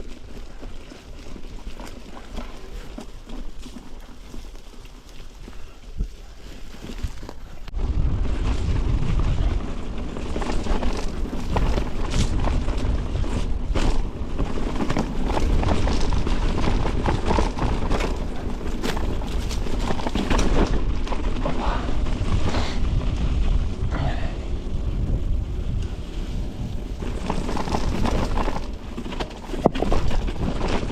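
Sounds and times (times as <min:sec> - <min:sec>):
wind buffeting on microphone: 0:05.2 - 0:30.9.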